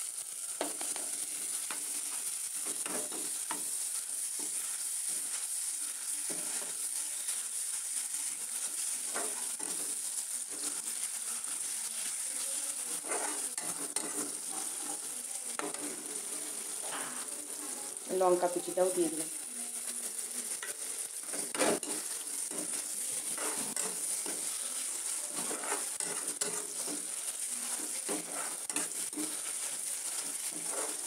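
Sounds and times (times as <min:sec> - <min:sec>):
onion sizzling in hot oil: 0:00.0 - 0:31.0
metal spoon scraping a pan: 0:00.2 - 0:07.5, 0:08.4 - 0:11.8, 0:12.4 - 0:18.6, 0:19.8 - 0:31.0.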